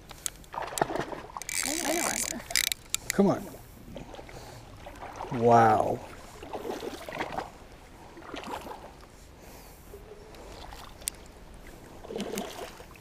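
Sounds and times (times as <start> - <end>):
water sloshing and lapping: 0.0 - 13.0.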